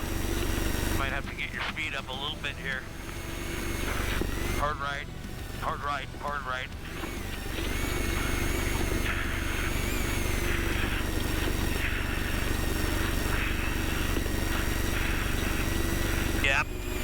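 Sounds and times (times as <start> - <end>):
thin whine: 0.0 - 17.0
truck engine rumble: 0.0 - 17.0.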